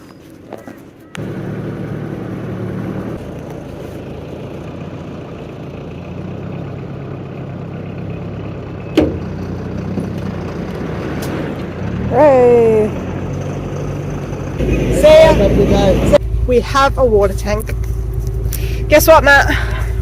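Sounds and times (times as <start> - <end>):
truck engine idling: 1.0 - 20.0.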